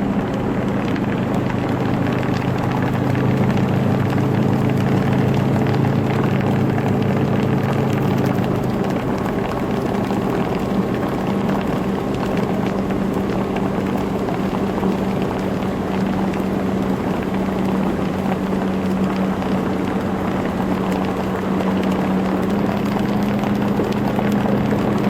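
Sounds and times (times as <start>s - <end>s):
motorboat engine humming: 0.0s - 25.0s.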